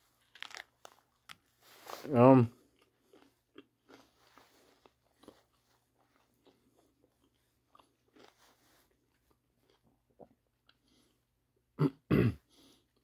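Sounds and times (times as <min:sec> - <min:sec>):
chewing crunchy food: 0:00.0 - 0:11.3.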